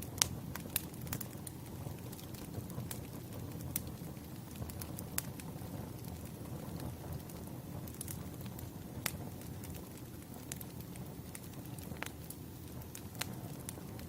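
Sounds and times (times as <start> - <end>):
fire low rumble: 0.0 - 14.0
wood fire crackling: 0.0 - 14.0.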